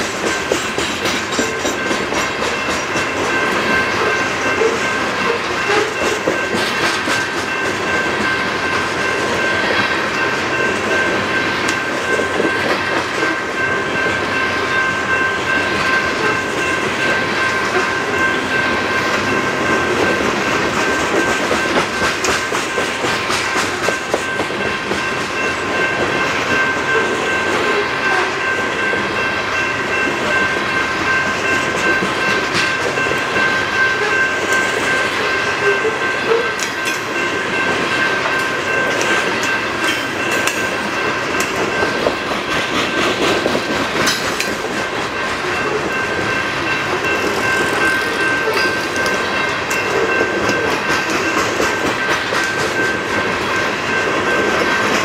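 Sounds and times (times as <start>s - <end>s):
train roar: 0.0s - 55.0s
train wheels clicking over rail joints: 0.0s - 55.0s.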